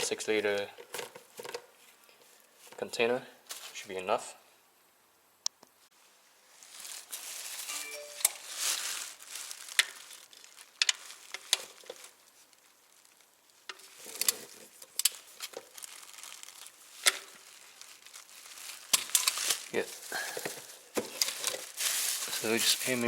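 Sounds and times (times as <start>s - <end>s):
plastic crinkling and rustling: 0.0s - 4.0s, 6.0s - 23.0s.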